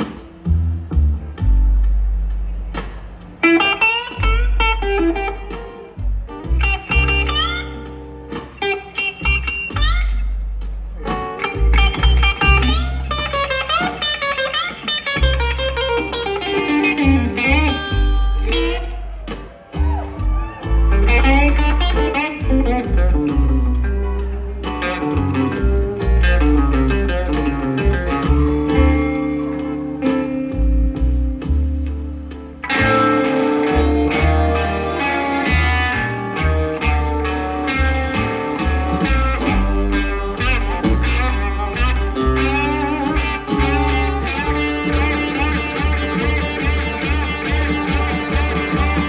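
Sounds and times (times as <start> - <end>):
acoustic guitars: 0.0 - 49.0
upright bass: 0.0 - 49.0
electric guitar lead: 2.7 - 49.0.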